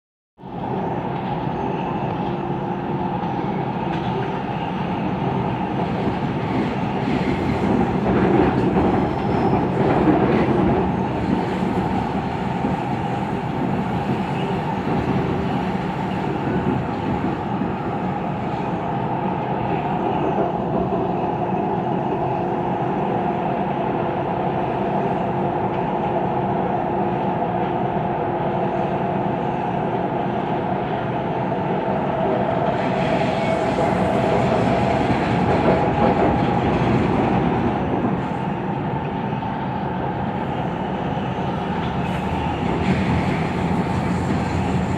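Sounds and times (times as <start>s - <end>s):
train rolling on track: 0.4s - 44.9s.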